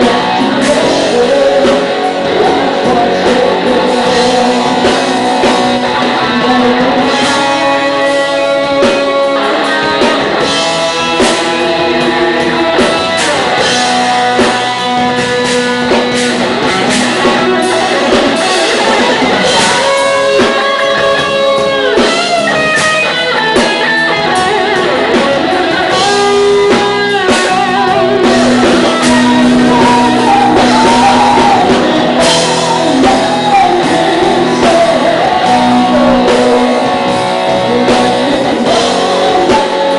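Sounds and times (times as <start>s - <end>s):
drums: 0.0s - 39.9s
electric guitars: 0.0s - 39.9s.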